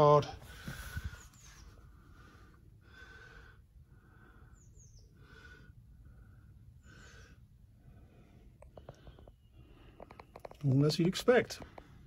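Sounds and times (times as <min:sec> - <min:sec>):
soft breaths: 0:00.3 - 0:10.4.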